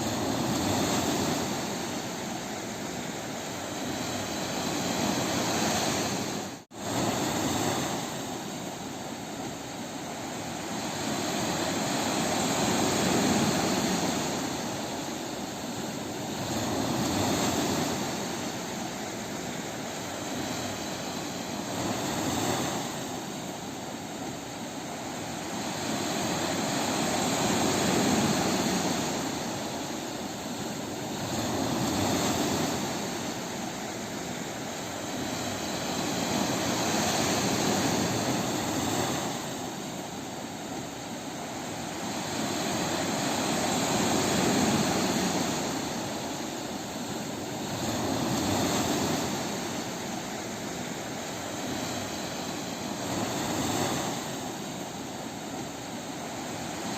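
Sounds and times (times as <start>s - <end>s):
waves washing onto beach: 0.0s - 56.9s.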